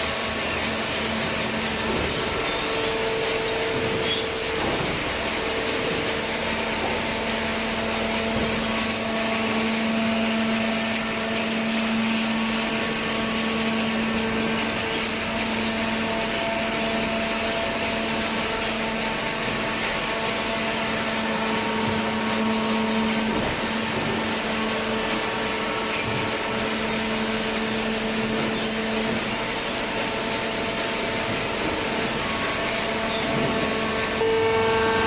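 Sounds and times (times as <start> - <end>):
motor humming with a whine: 0.0 - 35.0.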